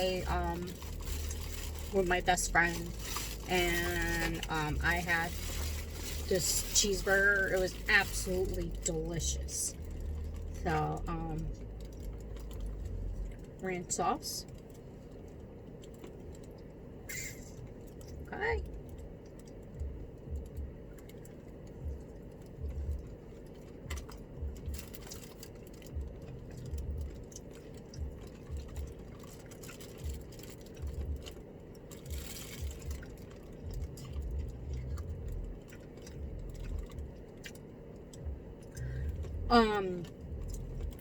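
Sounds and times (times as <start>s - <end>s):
chewing crunchy food: 0.0s - 13.6s, 14.4s - 41.0s.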